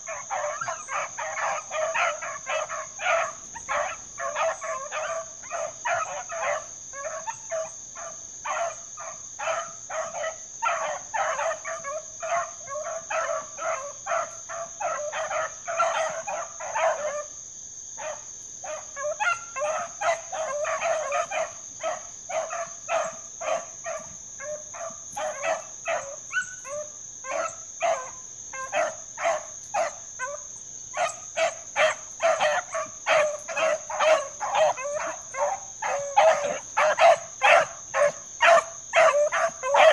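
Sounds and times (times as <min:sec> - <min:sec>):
dogs barking and baying: 0:00.0 - 0:39.9.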